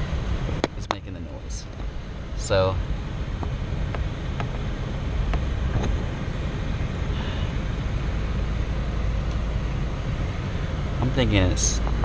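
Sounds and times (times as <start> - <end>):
car low hum: 0.0 - 12.0.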